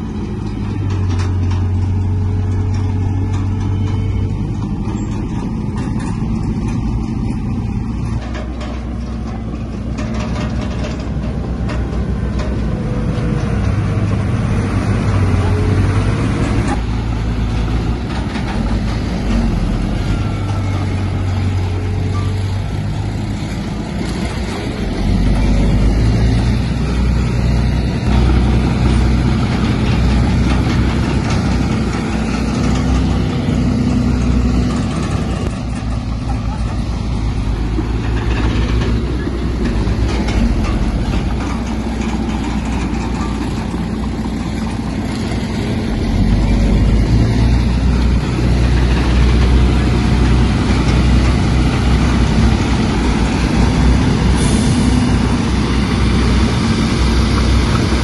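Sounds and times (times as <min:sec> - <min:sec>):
heavy machinery diesel engine drone: 0:00.0 - 0:58.0.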